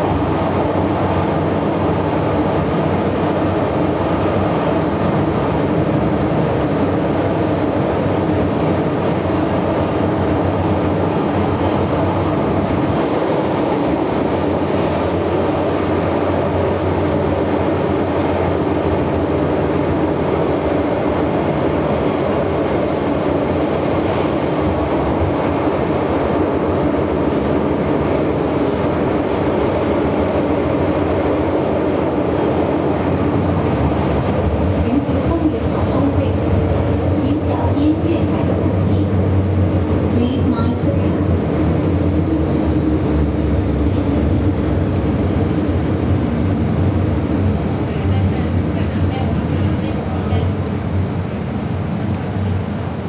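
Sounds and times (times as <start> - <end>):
train rumbling through tunnel: 0.0 - 53.0.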